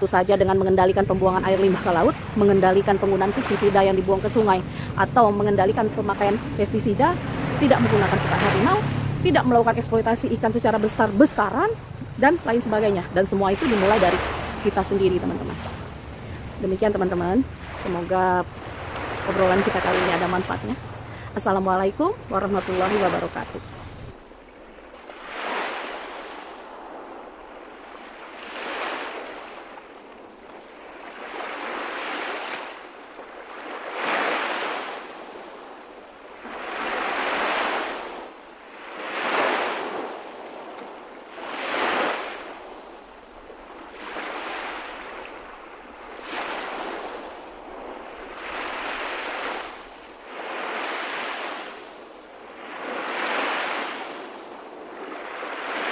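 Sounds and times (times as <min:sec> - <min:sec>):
small waves breaking on shore: 0:00.0 - 0:55.9.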